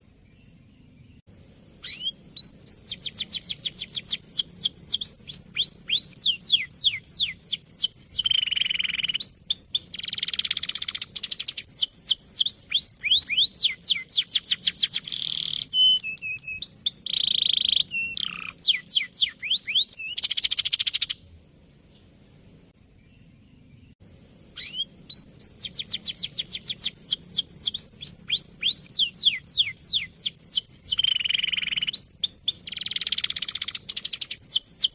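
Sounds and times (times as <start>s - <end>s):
canary singing: 1.7s - 21.2s, 23.1s - 34.9s.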